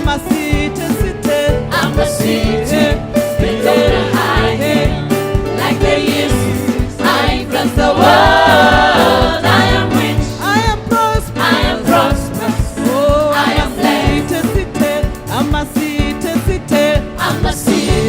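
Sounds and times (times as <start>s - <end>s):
band with steady beat: 0.0s - 18.0s
voices singing gospel music: 0.0s - 18.0s.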